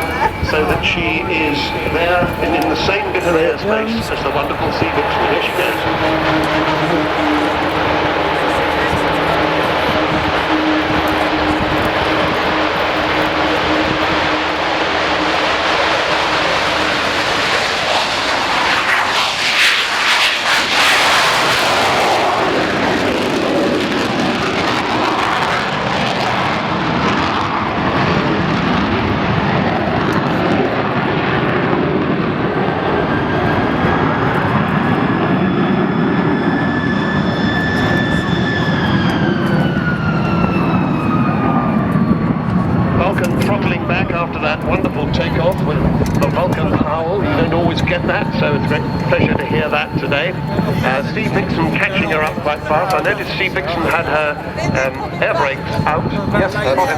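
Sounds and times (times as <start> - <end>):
high steady engine howl: 0.0 - 56.9
jet engine roar: 0.0 - 56.9.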